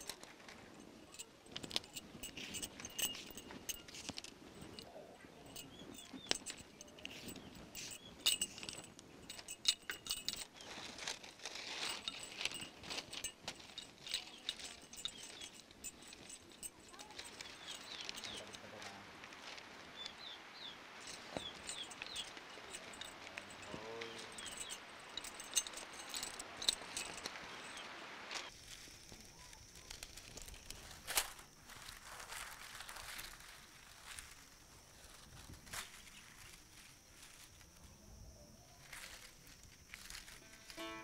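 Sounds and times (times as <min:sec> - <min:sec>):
bamboo strips clicking and rustling: 0:00.0 - 0:19.7, 0:21.0 - 0:34.6.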